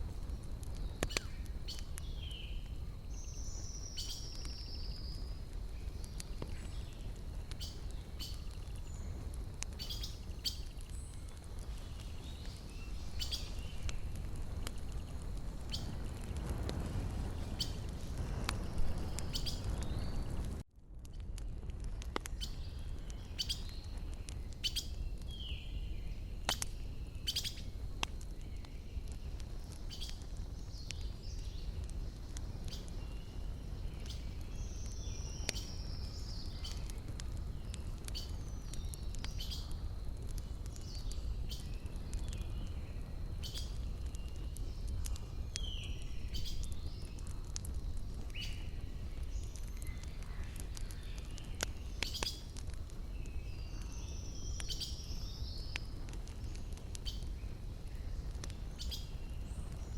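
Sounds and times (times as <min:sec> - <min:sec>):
wood fire crackling and popping: 0:00.0 - 0:59.9
small birds chirping: 0:00.1 - 0:20.4, 0:22.1 - 0:59.9.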